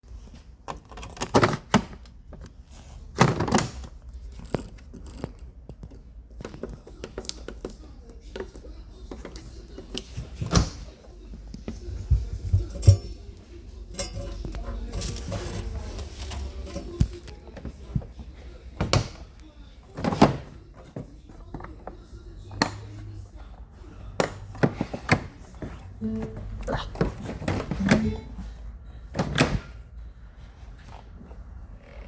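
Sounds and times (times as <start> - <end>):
faint voices: 5.9 - 32.0.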